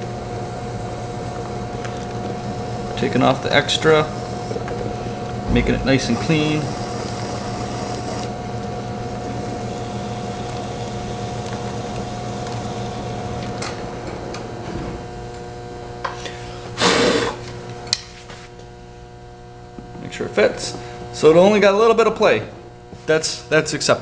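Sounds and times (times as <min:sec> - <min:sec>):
pottery wheel hum: 0:00.0 - 0:24.0.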